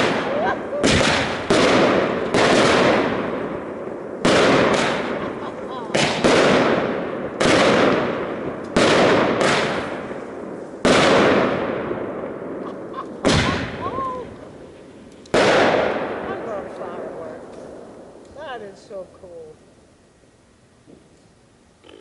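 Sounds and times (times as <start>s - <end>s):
firework shells booming overhead: 0.0s - 21.2s.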